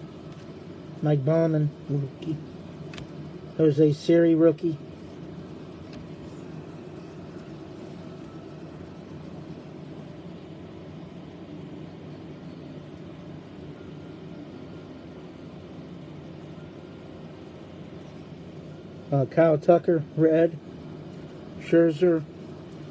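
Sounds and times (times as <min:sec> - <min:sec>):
background hum: 0:00.0 - 0:22.9
faint steady tones: 0:00.0 - 0:22.9.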